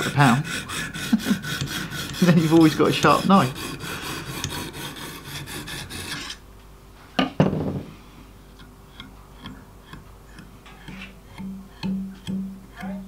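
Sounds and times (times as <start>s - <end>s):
hone stone scraping knife edge: 0.0s - 6.4s, 8.5s - 12.9s.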